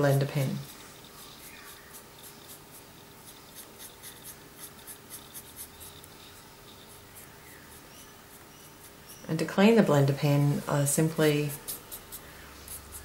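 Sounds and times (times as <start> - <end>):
pen brush tip scratching cardstock: 0.0 - 13.0.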